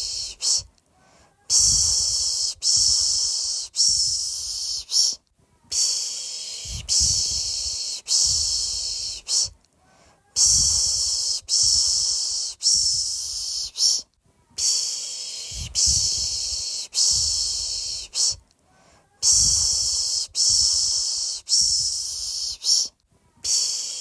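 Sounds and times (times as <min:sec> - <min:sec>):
person shushing rhythmically: 0:00.0 - 0:00.7, 0:01.3 - 0:09.6, 0:10.2 - 0:18.4, 0:19.0 - 0:24.0.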